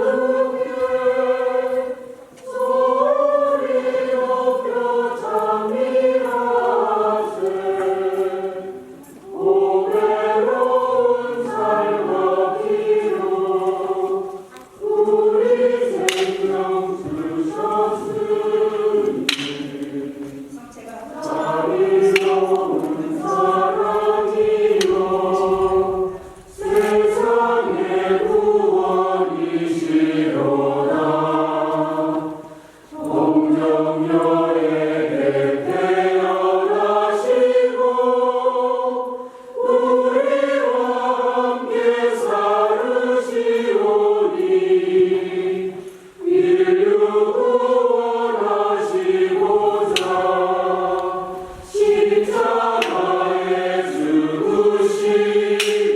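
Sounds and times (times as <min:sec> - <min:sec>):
church choir singing a hymn: 0:00.0 - 0:55.9.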